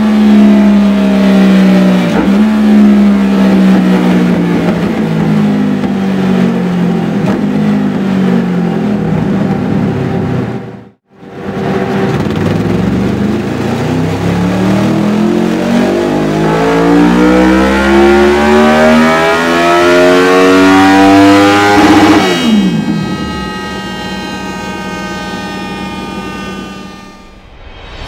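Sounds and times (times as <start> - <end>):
motorcycle engine revving on a dyno: 0.0 - 27.3.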